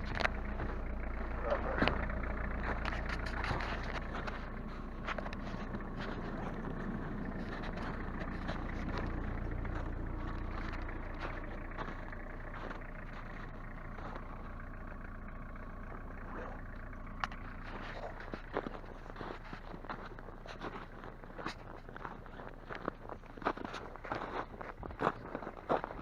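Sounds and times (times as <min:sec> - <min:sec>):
car engine running low revs: 0:00.0 - 0:26.0.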